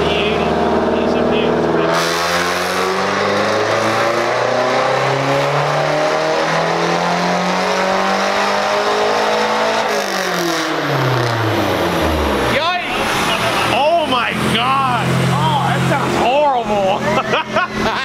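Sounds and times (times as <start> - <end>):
car engine revving at full throttle: 0.0 - 18.0.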